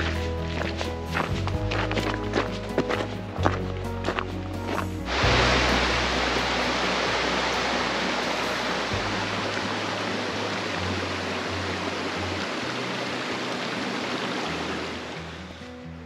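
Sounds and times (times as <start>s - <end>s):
mountain stream rushing: 0.0s - 15.8s
background music with low notes: 0.0s - 16.0s.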